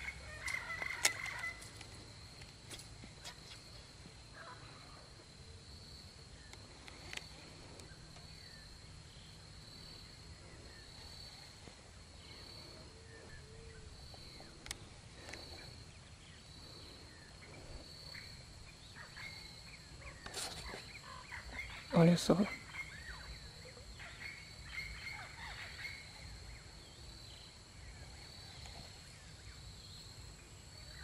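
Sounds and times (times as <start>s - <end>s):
faint bird chirps: 0.0s - 31.0s
high insect trill: 0.0s - 31.0s.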